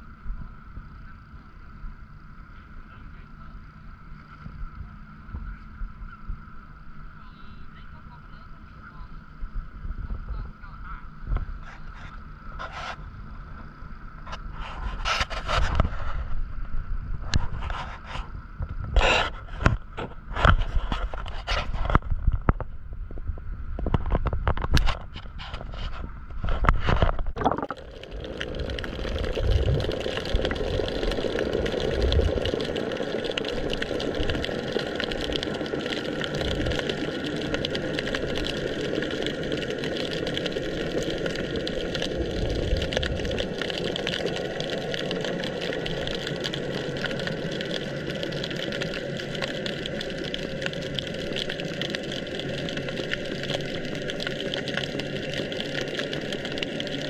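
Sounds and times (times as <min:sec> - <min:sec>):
underwater hiss with crackling: 0:00.0 - 0:22.2, 0:24.3 - 0:57.0.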